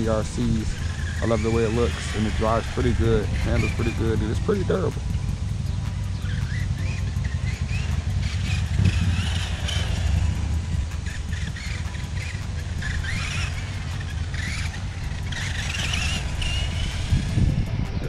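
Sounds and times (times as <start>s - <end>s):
electric motor whining: 0.0s - 18.0s
steady low rumble: 0.0s - 18.0s.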